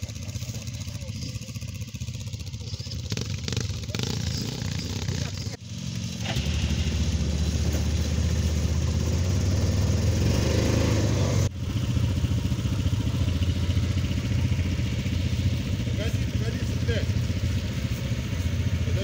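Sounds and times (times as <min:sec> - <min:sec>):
small engines idling: 0:00.0 - 0:19.0.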